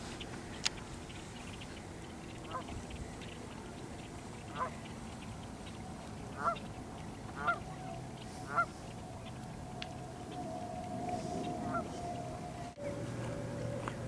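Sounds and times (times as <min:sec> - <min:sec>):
geese honking: 0:01.1 - 0:14.0.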